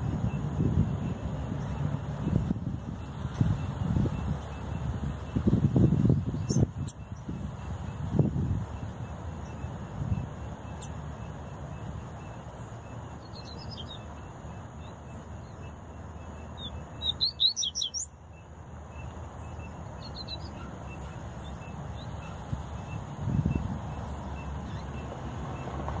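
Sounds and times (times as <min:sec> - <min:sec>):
bird chirping: 0:01.0 - 0:25.7.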